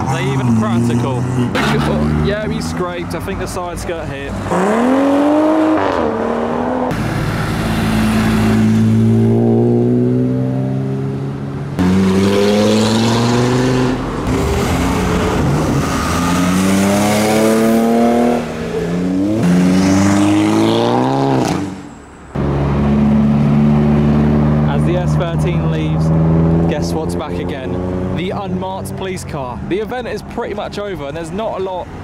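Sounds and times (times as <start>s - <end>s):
cars accelerating away: 0.0s - 29.8s.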